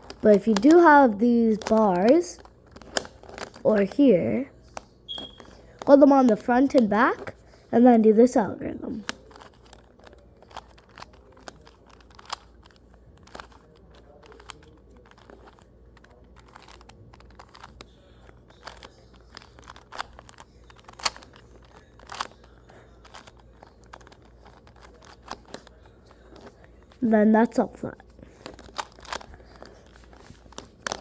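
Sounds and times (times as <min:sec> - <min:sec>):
plastic cube clicks and clacks: 0:00.0 - 0:07.4, 0:09.0 - 0:27.0, 0:28.0 - 0:31.0.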